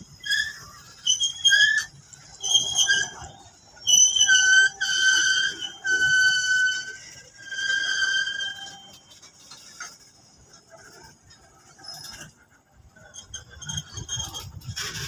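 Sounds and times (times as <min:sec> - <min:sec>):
metallic wheel squeal: 0:00.0 - 0:15.0
train wagons rolling: 0:00.0 - 0:15.0.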